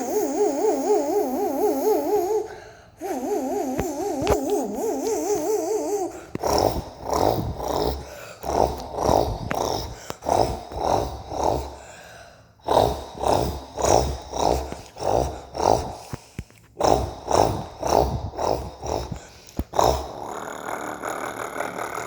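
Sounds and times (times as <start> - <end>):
person imitating engine by mouth: 0.0 - 11.9, 12.6 - 22.0.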